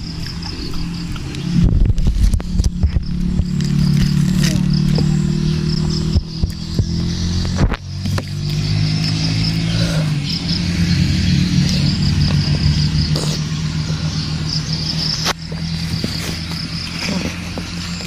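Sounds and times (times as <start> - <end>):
crunching bites into fruit: 0.0 - 10.3, 11.5 - 18.0
insects chirping: 0.0 - 18.0
low engine drone: 0.0 - 18.0.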